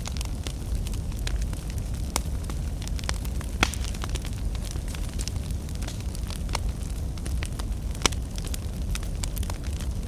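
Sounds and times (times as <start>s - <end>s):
fire crackling and popping: 0.0s - 10.0s.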